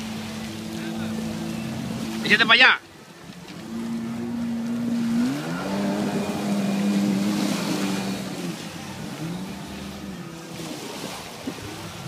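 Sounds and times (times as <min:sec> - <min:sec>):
jet ski engine running: 0:00.0 - 0:12.0.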